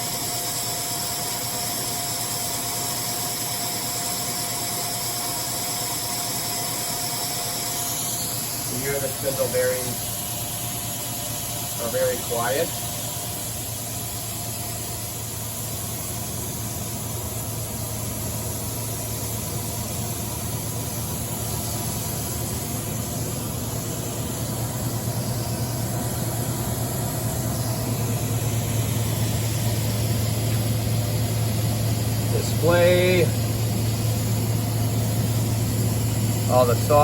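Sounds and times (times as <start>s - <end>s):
machine spindle humming: 0.0s - 37.0s.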